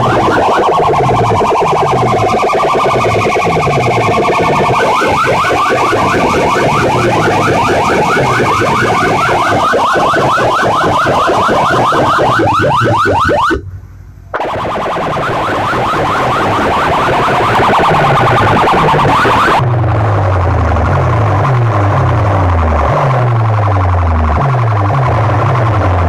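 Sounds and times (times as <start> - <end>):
electronic siren alarm from loudspeakers: 0.0 - 13.7, 14.3 - 26.0.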